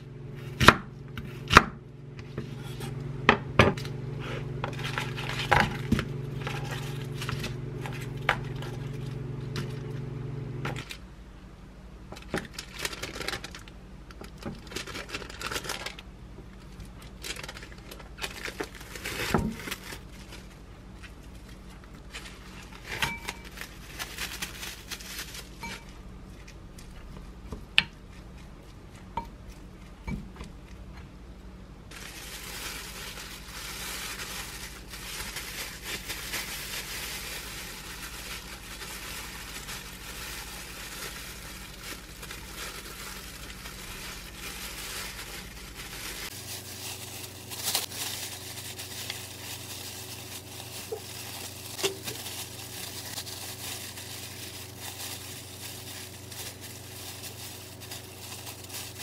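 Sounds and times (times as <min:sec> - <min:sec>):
plastic gloves crinkling: 0:03.7 - 0:10.0, 0:12.1 - 0:30.9, 0:31.9 - 0:59.0.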